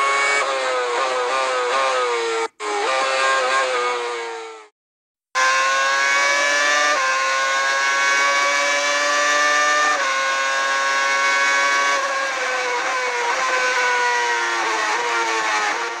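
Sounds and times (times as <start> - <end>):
racing car engine at high revs: 0.0 - 4.7, 5.4 - 16.0.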